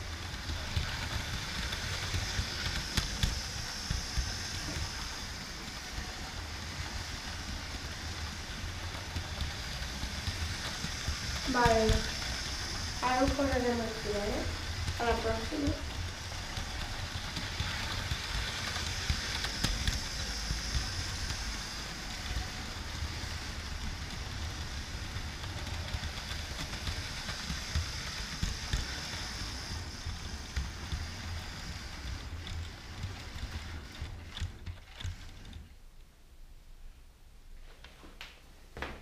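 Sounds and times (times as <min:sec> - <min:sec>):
model train wheels rumbling on rails: 0:00.0 - 0:36.1.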